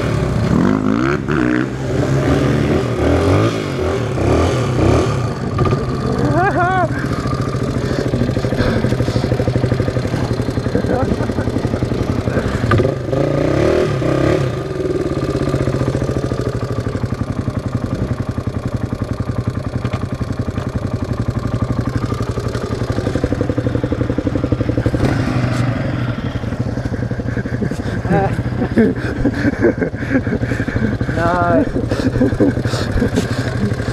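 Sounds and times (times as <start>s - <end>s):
off-road engine running: 0.0s - 33.9s.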